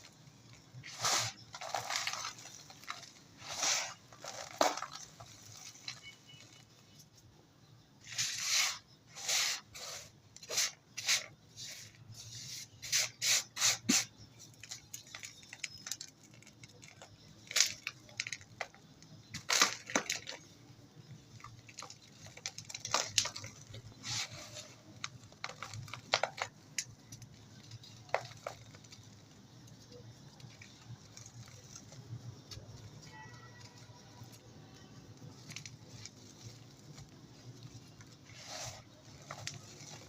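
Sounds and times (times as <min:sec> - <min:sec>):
dry dirt crumbling and crunching: 0:00.0 - 0:07.2, 0:14.4 - 0:40.0.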